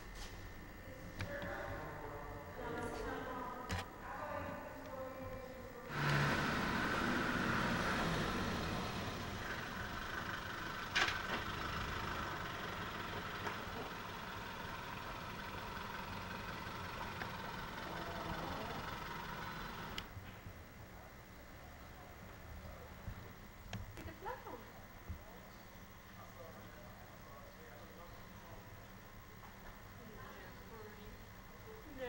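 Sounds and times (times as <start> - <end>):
faint engine hum: 0.0 - 32.0.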